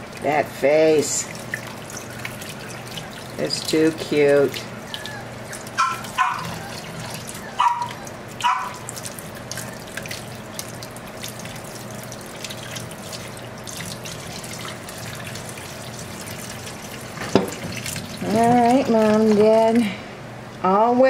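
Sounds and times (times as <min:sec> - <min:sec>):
faucet running: 0:00.0 - 0:19.9.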